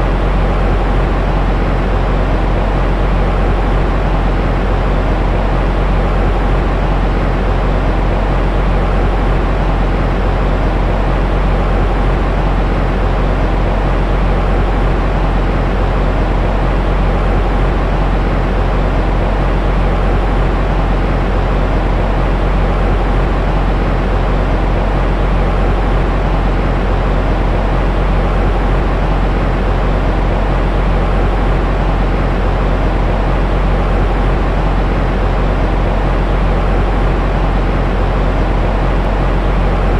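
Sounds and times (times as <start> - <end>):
deep rumbling white noise: 0.0 - 39.9.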